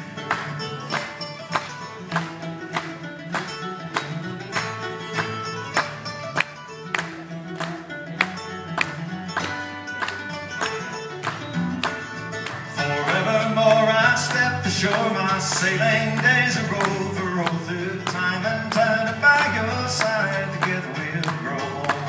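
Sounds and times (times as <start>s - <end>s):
acoustic guitar: 0.0s - 22.0s
mandolin: 0.0s - 22.0s.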